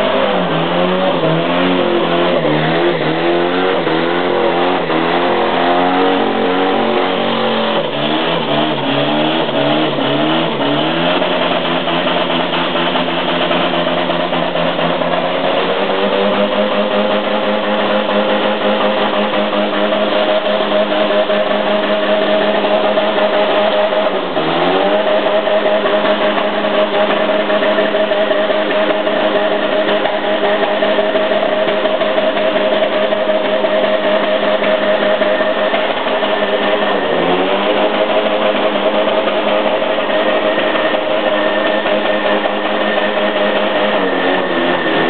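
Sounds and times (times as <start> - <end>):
car engine revving hard: 0.0 - 45.0.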